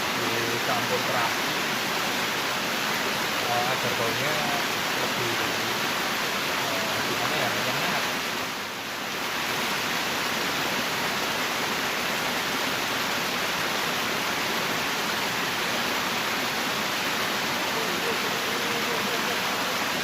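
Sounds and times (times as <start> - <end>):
flowing river water: 0.0 - 20.0.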